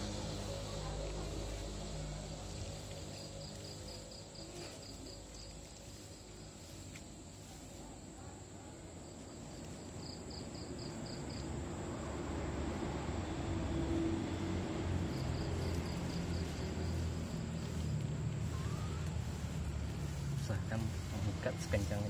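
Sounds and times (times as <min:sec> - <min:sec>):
cricket chirping: 0:00.0 - 0:07.8, 0:08.4 - 0:22.0.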